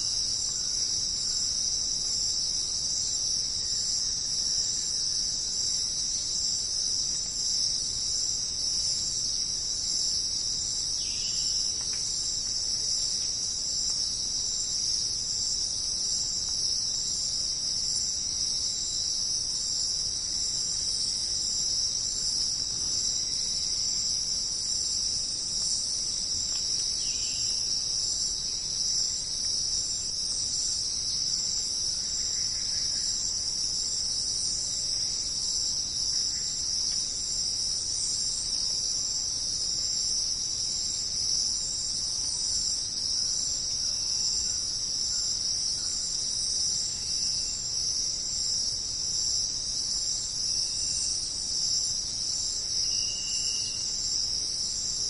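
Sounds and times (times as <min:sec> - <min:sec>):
insects buzzing and trilling: 0:00.0 - 0:55.0.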